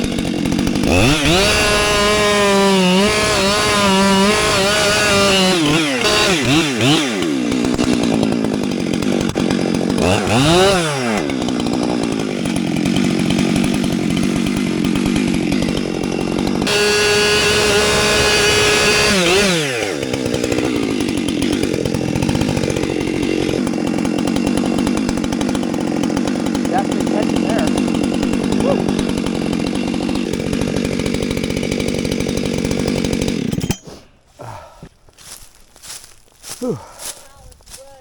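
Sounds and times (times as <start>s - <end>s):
chainsaw revving: 0.0s - 38.0s.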